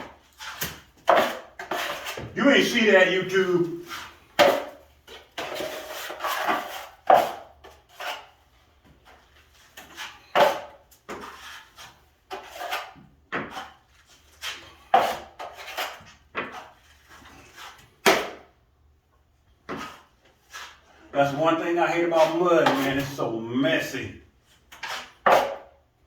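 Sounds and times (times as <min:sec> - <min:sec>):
drywall knife scraping: 0:00.0 - 0:18.4, 0:19.5 - 0:23.3, 0:24.4 - 0:25.8.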